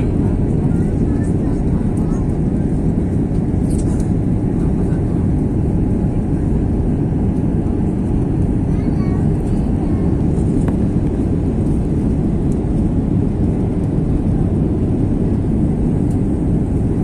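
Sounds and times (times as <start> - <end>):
airliner cabin engine noise: 0.0 - 17.0.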